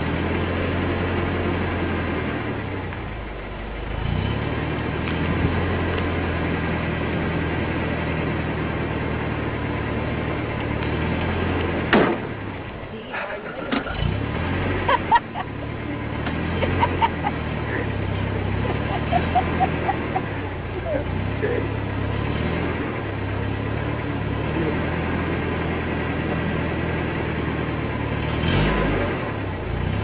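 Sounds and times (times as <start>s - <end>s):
low engine-like hum: 0.0s - 30.0s.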